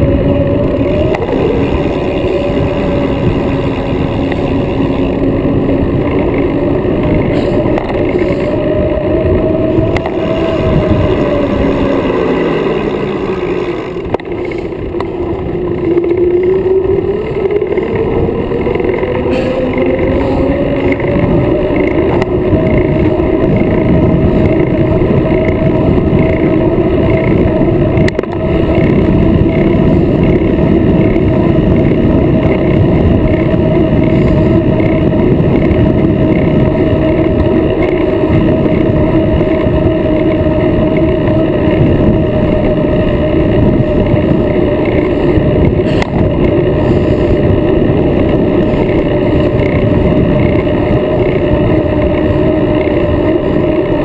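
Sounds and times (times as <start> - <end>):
constant whine: 0.0 - 54.0
wind roaring over microphone: 0.0 - 54.0.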